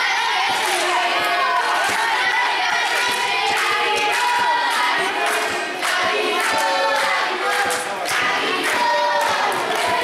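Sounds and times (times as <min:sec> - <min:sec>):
crowd singing a chant: 0:00.0 - 0:10.0.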